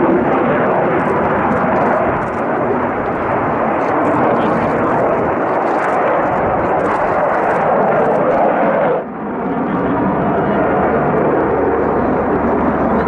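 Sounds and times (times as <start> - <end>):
fighter jet engines roaring: 0.0 - 13.0.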